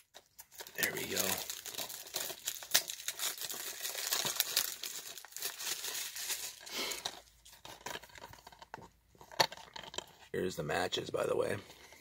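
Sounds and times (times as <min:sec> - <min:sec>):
plastic wrap crinkling and tearing: 0:00.0 - 0:10.0.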